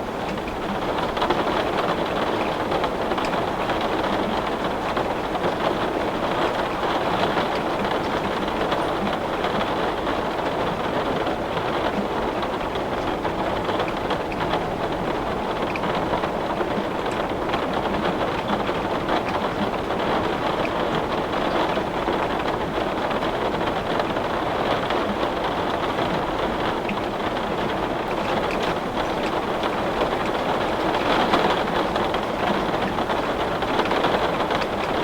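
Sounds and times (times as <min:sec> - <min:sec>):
heavy rain on a window: 0:00.0 - 0:35.0.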